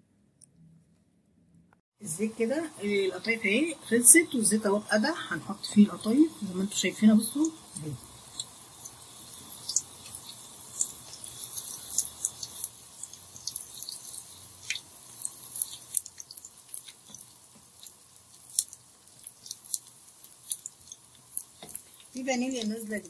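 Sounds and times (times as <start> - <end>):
food deep-frying in hot oil: 2.0 - 23.0.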